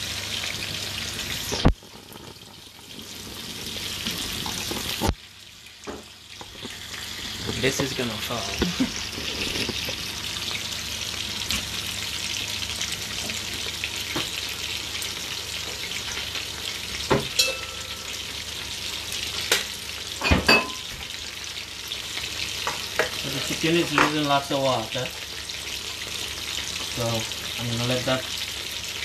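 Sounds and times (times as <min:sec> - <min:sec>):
chicken sizzling in oil: 0:00.0 - 0:29.0.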